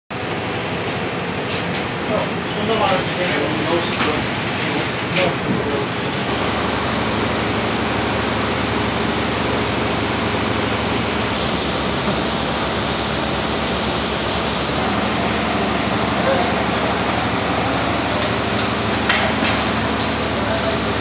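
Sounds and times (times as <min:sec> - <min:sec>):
block making machine running: 0:00.2 - 0:21.0.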